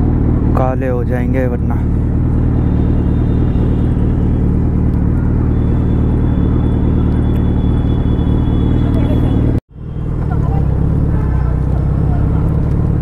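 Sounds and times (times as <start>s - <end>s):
motorcycle engine idling low: 0.0s - 13.0s.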